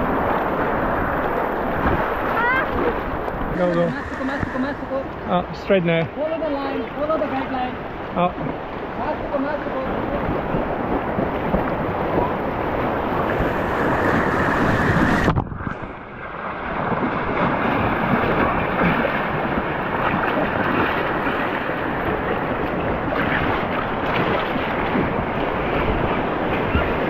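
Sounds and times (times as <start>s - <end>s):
whitewater rushing and splashing: 0.0s - 27.0s
wind buffeting microphone: 0.0s - 27.0s.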